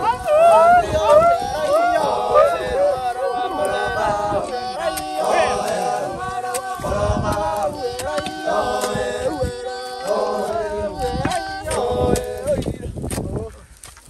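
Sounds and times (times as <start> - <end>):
men singing a work chant: 0.0 - 13.3.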